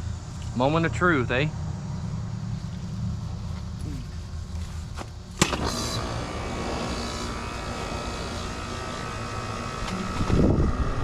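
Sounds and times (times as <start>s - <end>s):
air conditioner humming and whining: 0.0s - 11.0s.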